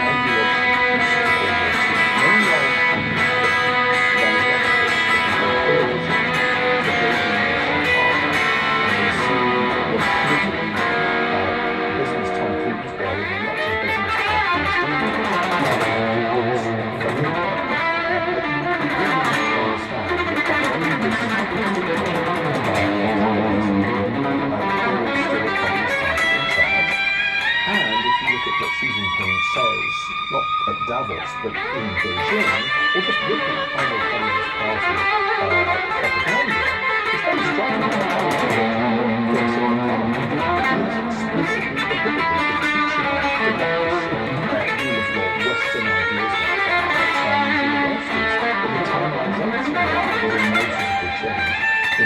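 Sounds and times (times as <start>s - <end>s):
solo guitar riffs: 0.0s - 52.0s.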